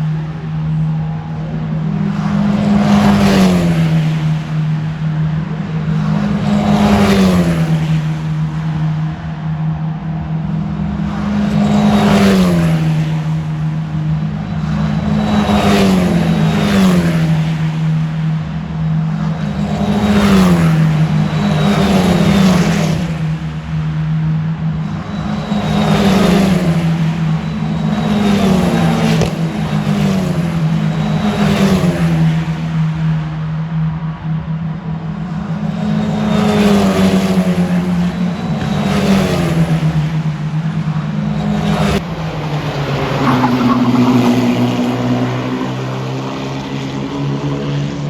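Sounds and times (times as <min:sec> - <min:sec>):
race car engines passing: 0:00.0 - 0:48.0.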